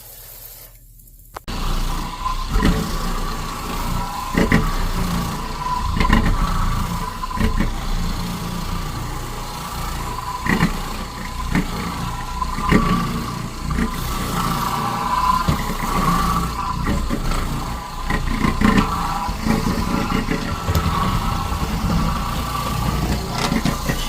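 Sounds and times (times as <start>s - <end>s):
vacuum cleaner motor whine: 1.4s - 24.0s.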